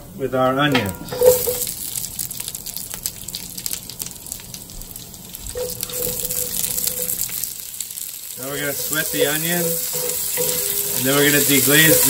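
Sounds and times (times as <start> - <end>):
onions sizzling in oil: 0.9 - 12.0.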